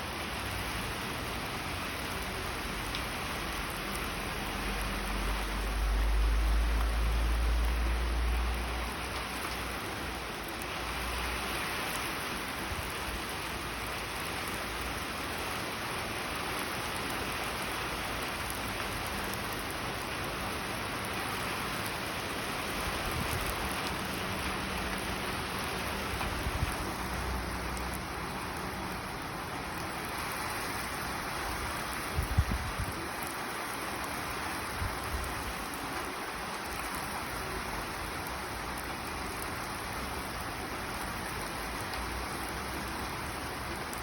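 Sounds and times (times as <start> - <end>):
rain pattering: 0.0 - 44.0.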